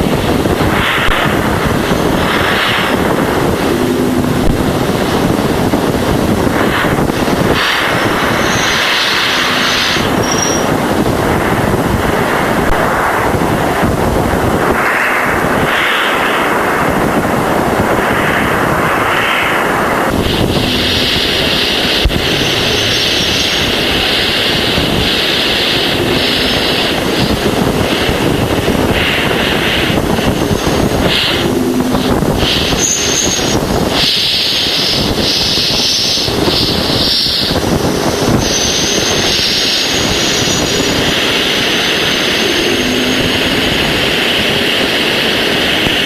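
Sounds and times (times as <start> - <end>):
higher band of hiss: 0.0 - 46.0
steady static-like hiss: 0.0 - 46.0.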